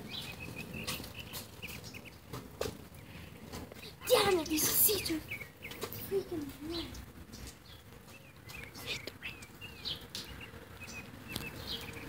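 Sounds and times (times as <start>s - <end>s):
bird chirping: 0.0s - 12.0s
rain on glass and paving: 0.0s - 12.0s.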